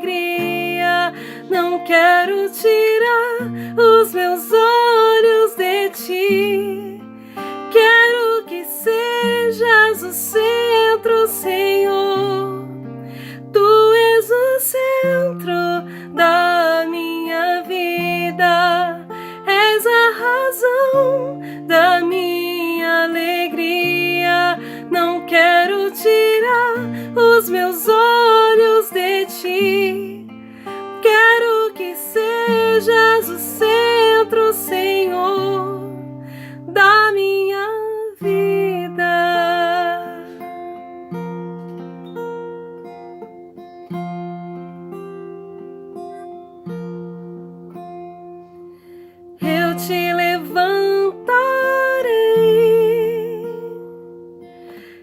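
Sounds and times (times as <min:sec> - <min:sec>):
plucked acoustic guitar: 0:00.0 - 0:55.0.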